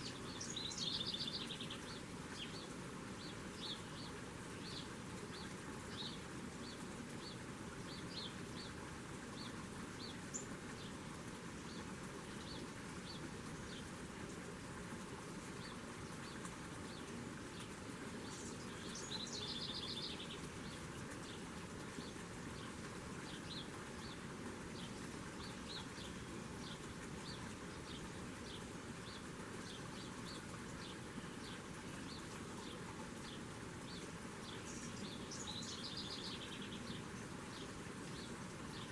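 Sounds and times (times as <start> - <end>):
small birds chirping: 0.0 - 14.6, 15.5 - 38.9
steady background hiss: 0.0 - 38.9.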